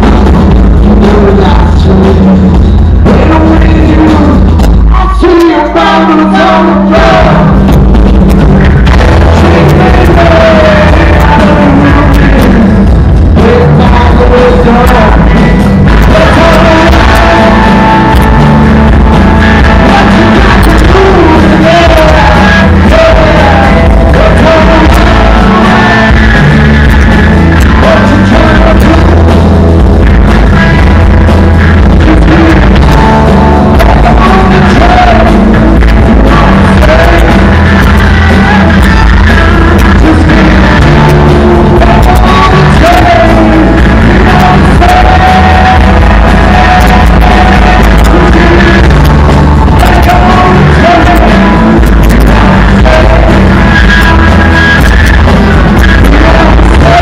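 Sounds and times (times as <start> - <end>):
live rock band playing: 0.0 - 57.0
man singing lead vocal: 0.0 - 57.0.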